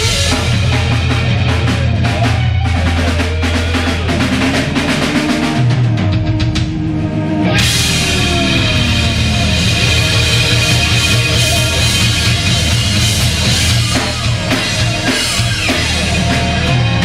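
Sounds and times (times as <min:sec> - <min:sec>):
rapid drum fill: 0:00.0 - 0:06.9, 0:07.6 - 0:17.0
electric guitar and bass notes: 0:00.0 - 0:17.0
rock band with cymbals: 0:00.0 - 0:17.0.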